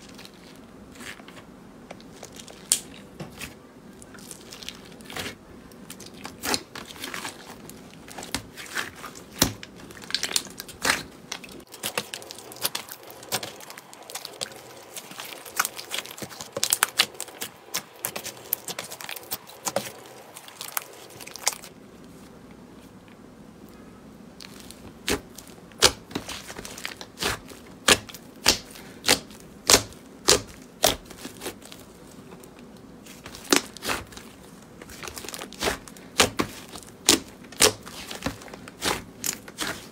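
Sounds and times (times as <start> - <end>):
slime crackling and popping: 2.0 - 21.7, 24.4 - 39.9.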